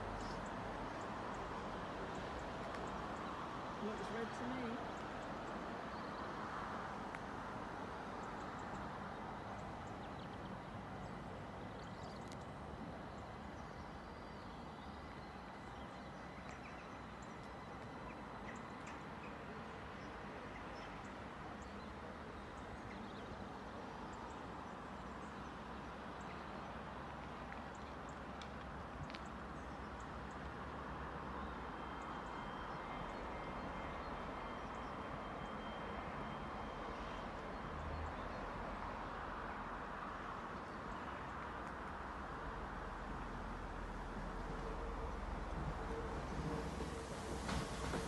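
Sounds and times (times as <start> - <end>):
distant train: 0.0 - 48.0.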